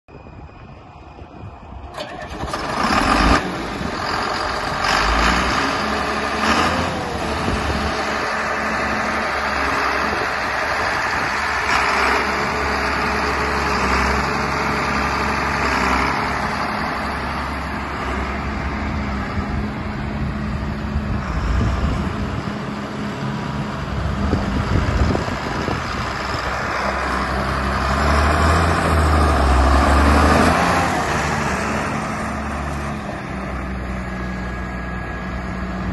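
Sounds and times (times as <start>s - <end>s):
tractor diesel engine running: 0.1s - 35.9s.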